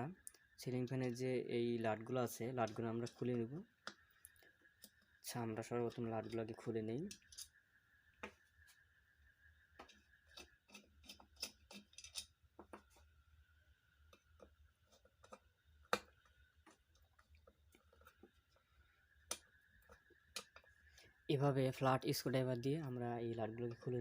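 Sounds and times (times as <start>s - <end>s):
faint high whine: 0.0s - 11.0s, 12.2s - 24.0s.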